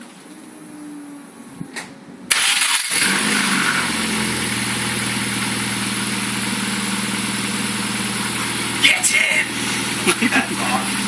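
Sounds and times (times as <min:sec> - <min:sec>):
car engine starting and idling: 0:01.8 - 0:11.0.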